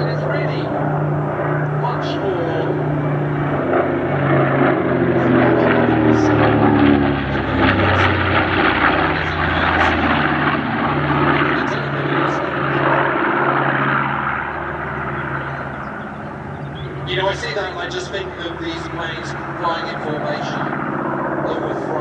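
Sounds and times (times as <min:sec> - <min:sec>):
propeller plane engines droning: 0:00.0 - 0:22.0.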